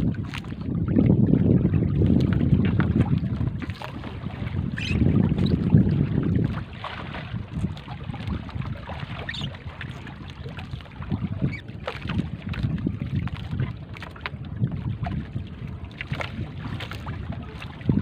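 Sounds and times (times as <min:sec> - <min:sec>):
wind gusting on microphone: 0:00.0 - 0:18.0.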